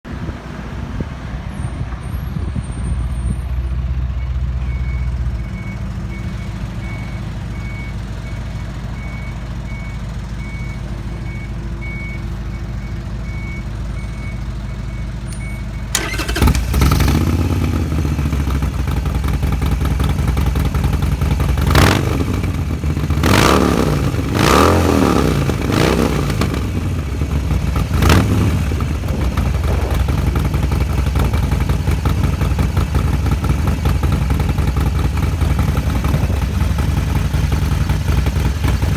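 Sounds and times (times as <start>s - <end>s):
motorcycle engine idling and revving: 0.1s - 38.9s.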